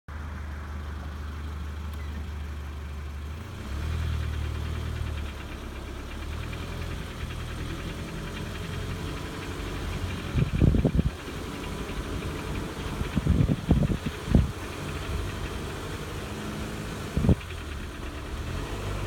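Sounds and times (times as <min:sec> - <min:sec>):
car engine running with knock: 0:00.2 - 0:19.0.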